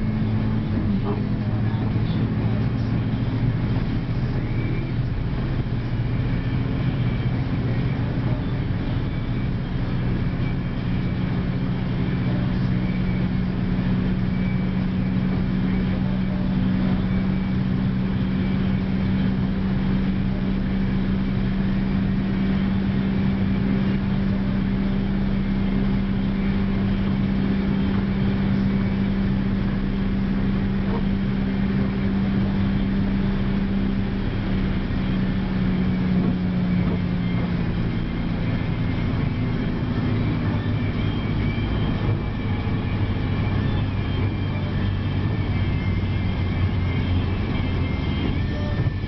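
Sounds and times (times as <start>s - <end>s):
car engine drone: 0.0s - 49.0s
road and tyre noise: 0.0s - 49.0s.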